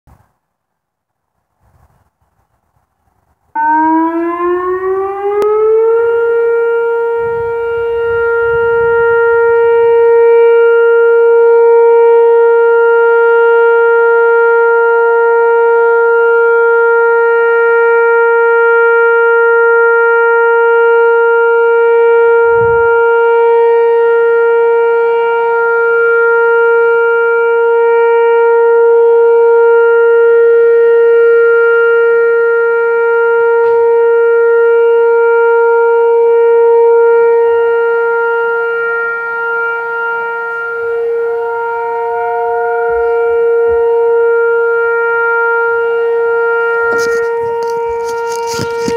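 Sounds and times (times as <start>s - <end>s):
warning siren: 3.1s - 48.9s.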